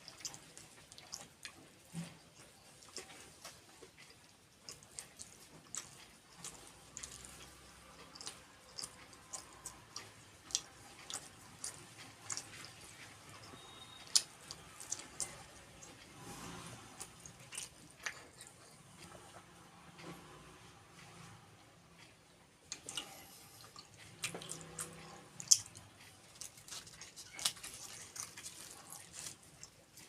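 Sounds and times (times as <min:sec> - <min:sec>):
chewing and lip-smacking: 0:00.0 - 0:19.5, 0:22.7 - 0:30.0.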